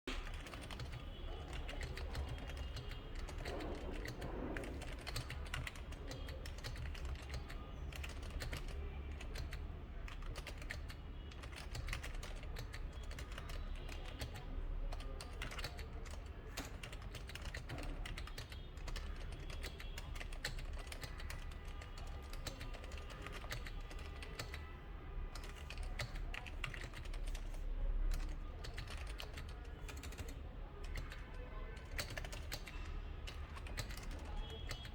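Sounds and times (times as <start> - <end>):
keyboard typing clacks: 0.1 - 24.6, 25.4 - 34.9.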